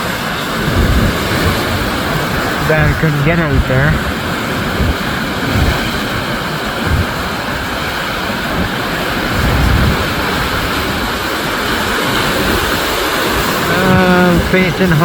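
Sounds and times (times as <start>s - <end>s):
waves breaking on shore: 0.0s - 15.0s
wind rumbling on microphone: 0.0s - 15.0s.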